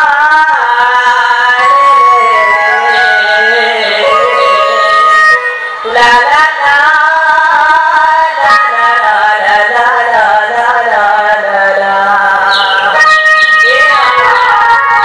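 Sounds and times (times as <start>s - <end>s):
person singing into microphone: 0.0s - 15.0s.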